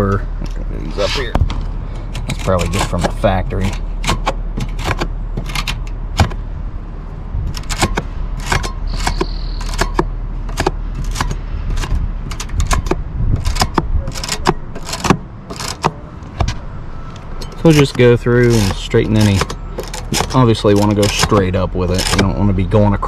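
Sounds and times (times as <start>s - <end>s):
steady low rumble: 0.0s - 19.8s.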